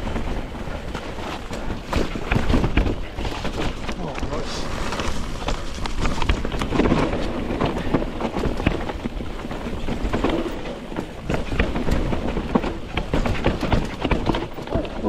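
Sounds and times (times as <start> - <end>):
bike knocking and rattling: 0.0 - 15.0
bike tyres rolling on dirt: 0.0 - 15.0
wind rumble on microphone: 0.0 - 15.0.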